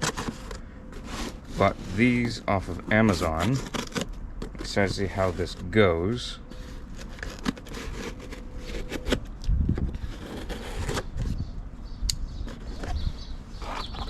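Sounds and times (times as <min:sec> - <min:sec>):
cardboard box scraping and crackling: 0:00.0 - 0:11.4, 0:12.4 - 0:14.0.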